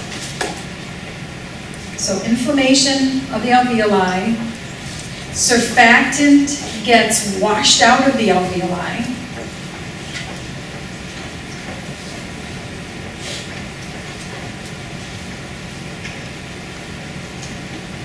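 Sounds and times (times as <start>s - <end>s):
room tone hum and hiss: 0.0s - 18.0s.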